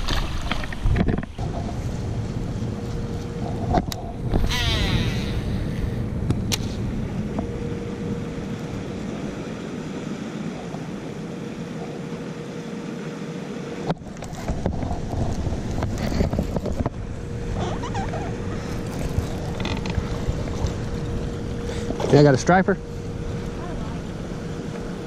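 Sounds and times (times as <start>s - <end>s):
electric motor hum: 0.7s - 25.0s.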